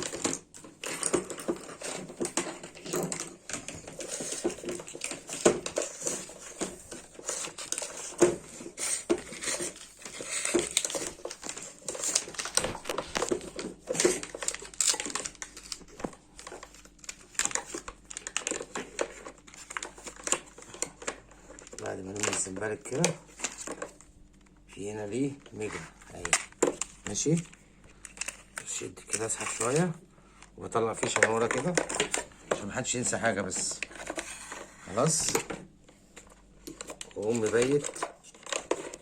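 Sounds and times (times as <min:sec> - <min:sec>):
plastic cord reel clicking and rattling: 0:00.0 - 0:24.0, 0:30.8 - 0:35.6, 0:36.2 - 0:39.0.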